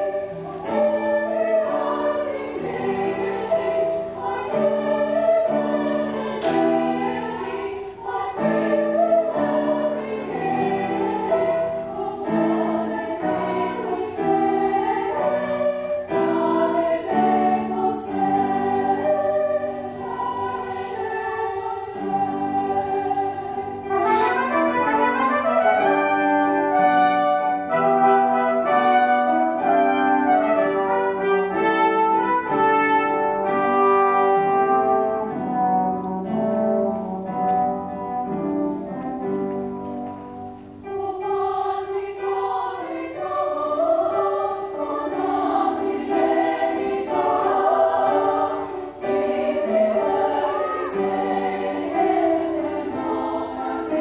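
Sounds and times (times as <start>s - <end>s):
choir singing: 0.0s - 54.0s
piano and instrumental accompaniment: 0.0s - 54.0s.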